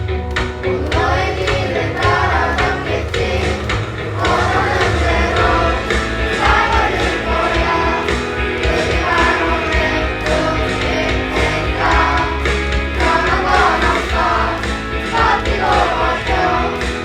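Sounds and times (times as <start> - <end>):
pop backing track: 0.0 - 17.0
students singing in unison: 0.7 - 17.0.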